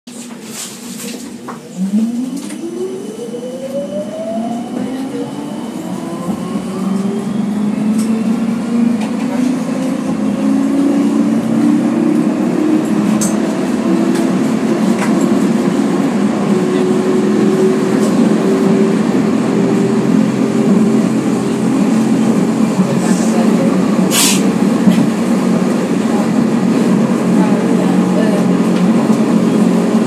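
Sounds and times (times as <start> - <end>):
tram motor whine rising: 1.5 - 30.0.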